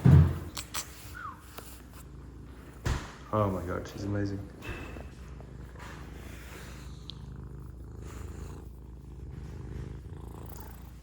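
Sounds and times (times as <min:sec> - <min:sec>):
cat purring: 0:00.4 - 0:11.0.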